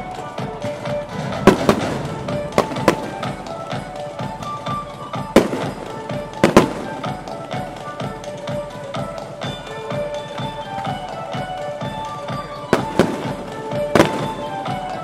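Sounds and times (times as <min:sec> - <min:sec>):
fireworks banging: 0:00.0 - 0:15.0
music: 0:00.0 - 0:15.0.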